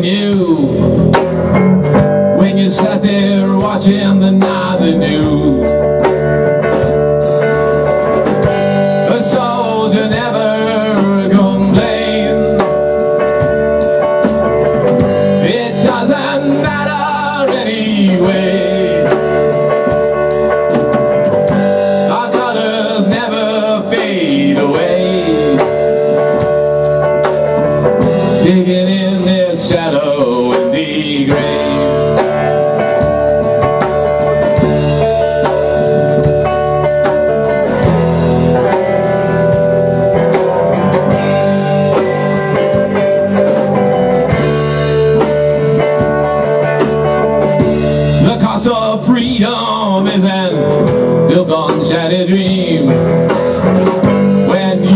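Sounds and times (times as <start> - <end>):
drum kit: 0.0 - 54.9
electric bass: 0.0 - 54.9
electric guitar: 0.0 - 54.9.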